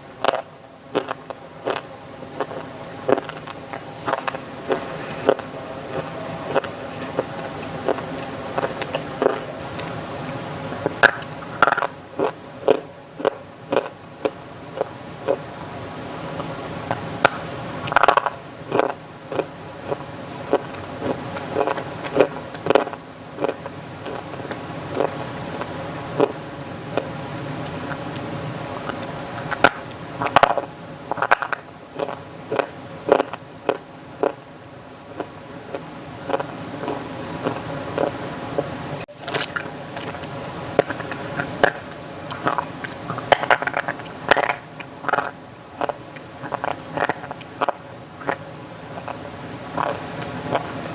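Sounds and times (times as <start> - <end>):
steady background hum: 0.0 - 50.9.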